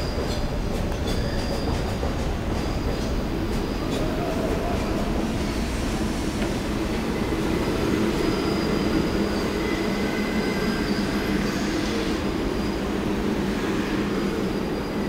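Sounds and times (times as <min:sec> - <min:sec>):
wheel squeal: 0:00.0 - 0:04.2, 0:06.4 - 0:15.0
subway train rumbling past: 0:00.0 - 0:15.0.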